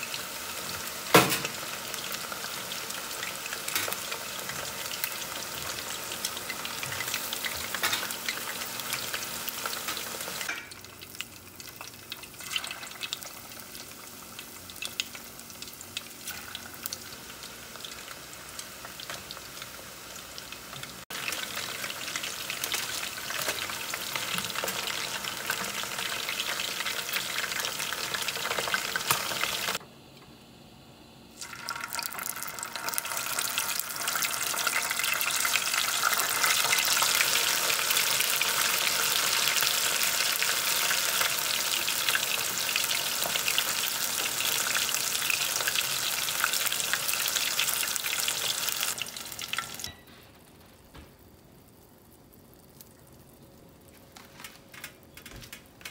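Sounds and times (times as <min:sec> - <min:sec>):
chicken deep-frying in oil: 0:00.0 - 0:29.8, 0:31.3 - 0:55.9.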